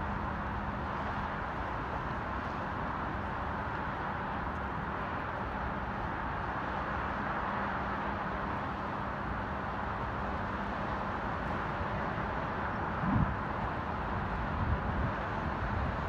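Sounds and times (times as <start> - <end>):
distant highway traffic hum: 0.0 - 16.0.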